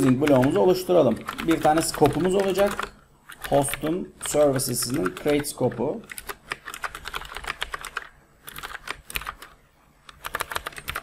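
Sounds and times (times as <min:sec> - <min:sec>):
keyboard typing: 0:00.0 - 0:11.0.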